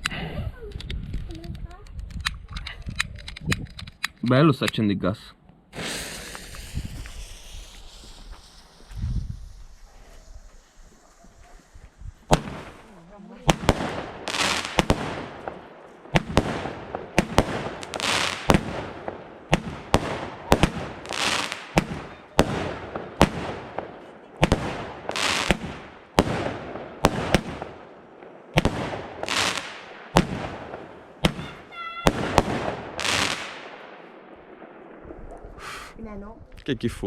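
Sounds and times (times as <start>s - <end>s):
crackling hiss: 5.6s - 36.1s
fireworks bangs: 5.7s - 35.9s.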